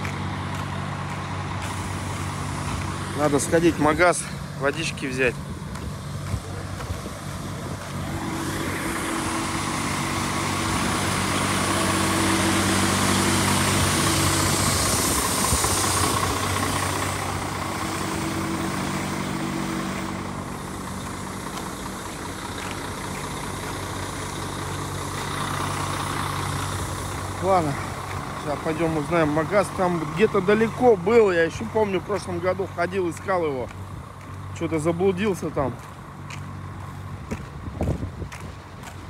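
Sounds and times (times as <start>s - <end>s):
engine and road noise: 0.0s - 39.0s
heavy truck engine idling: 0.0s - 39.0s.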